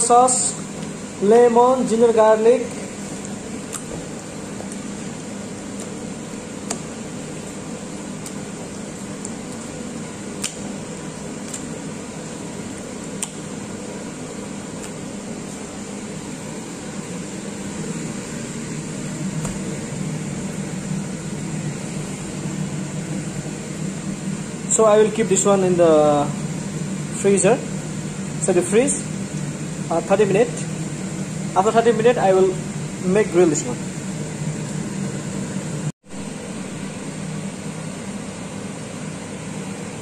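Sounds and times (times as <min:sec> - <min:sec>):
fan motor hum: 0:00.0 - 0:40.0.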